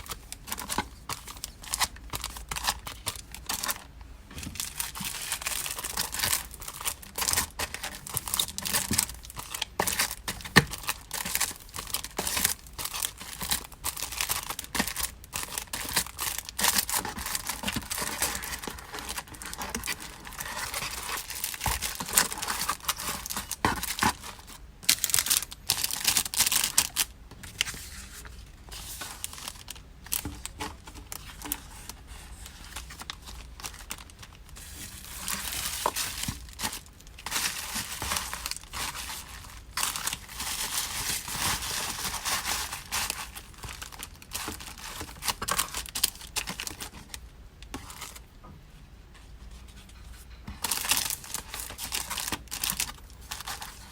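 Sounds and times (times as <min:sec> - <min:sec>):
packaging crinkling and rustling: 0:00.0 - 0:48.4, 0:49.4 - 0:53.9.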